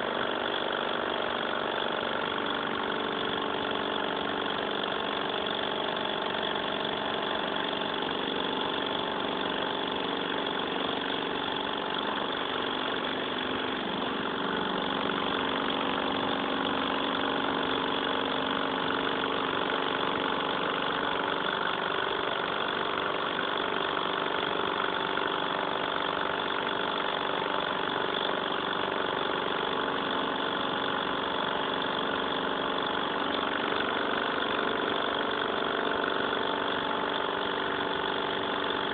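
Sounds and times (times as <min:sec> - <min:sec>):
small stirling engine running: 0:00.0 - 0:38.9.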